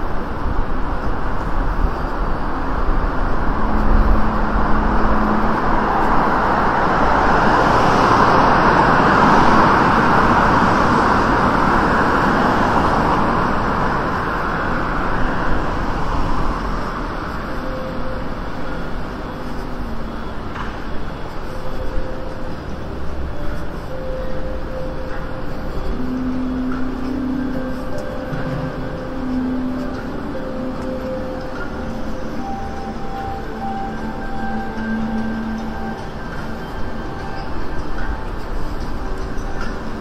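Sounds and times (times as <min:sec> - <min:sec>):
city traffic hum: 0:00.0 - 0:40.0.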